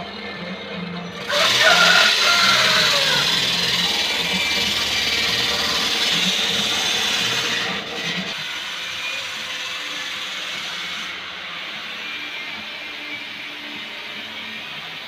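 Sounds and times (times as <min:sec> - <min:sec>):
electric lathe whirring and rasping: 0:01.1 - 0:15.0.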